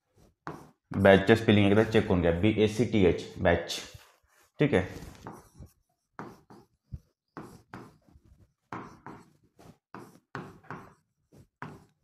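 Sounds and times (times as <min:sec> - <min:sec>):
pen scratching on whiteboard screen: 0:00.0 - 0:12.0.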